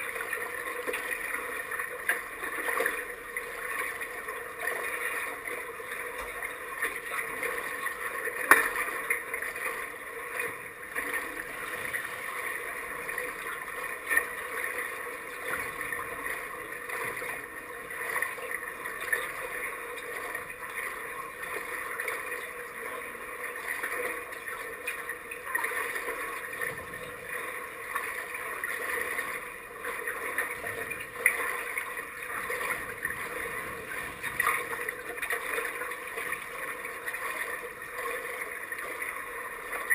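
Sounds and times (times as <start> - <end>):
water lapping and sloshing: 0.0 - 39.9.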